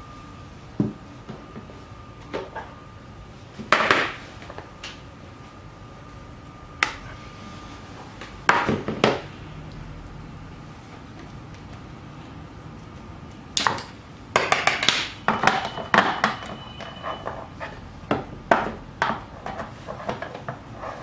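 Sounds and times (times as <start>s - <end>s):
faint high hum: 0.0s - 21.0s.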